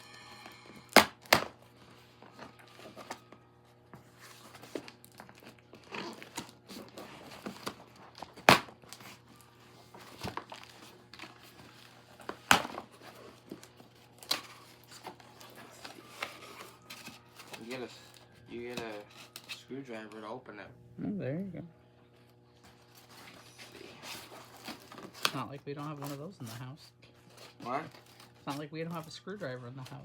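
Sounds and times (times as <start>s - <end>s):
wrapping crinkling and tearing: 1.0s - 20.3s, 22.2s - 30.0s.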